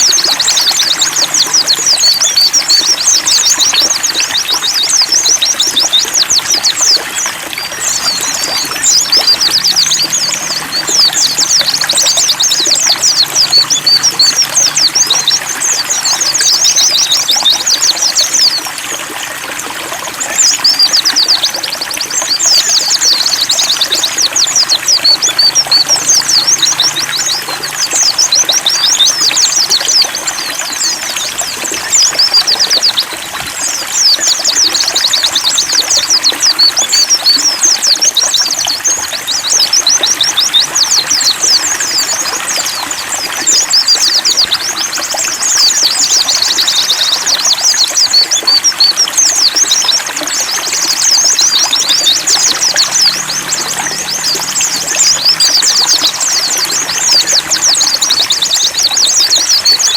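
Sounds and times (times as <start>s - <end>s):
birds twittering: 0.0s - 59.9s
trickling water: 0.0s - 59.9s.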